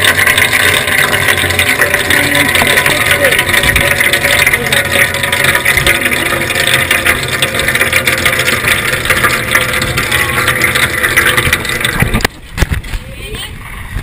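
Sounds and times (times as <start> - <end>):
hose water rushing and splashing: 0.0 - 12.4.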